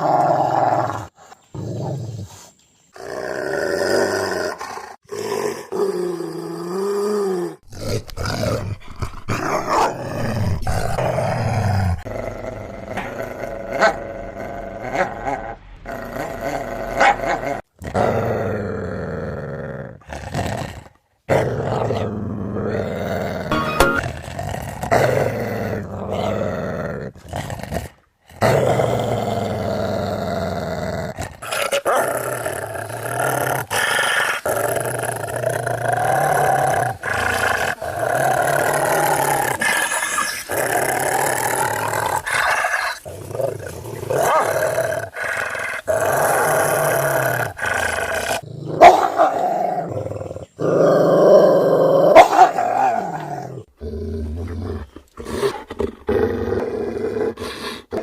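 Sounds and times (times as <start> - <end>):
large dogs growling: 3.0 - 23.5, 24.3 - 58.0.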